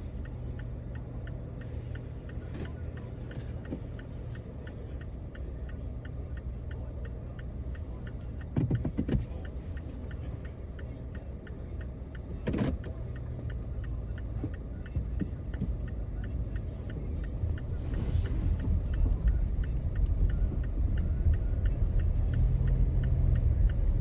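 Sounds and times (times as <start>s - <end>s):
engine and tyres rumbling: 0.0s - 24.0s.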